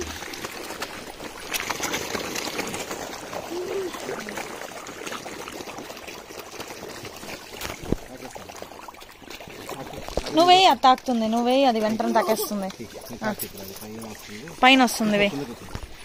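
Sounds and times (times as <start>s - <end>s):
river water splashing and trickling: 0.0s - 16.0s.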